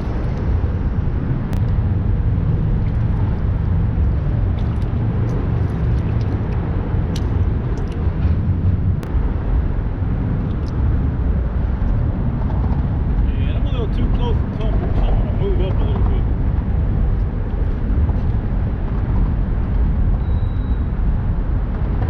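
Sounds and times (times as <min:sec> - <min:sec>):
boat low rumble: 0:00.0 - 0:22.0.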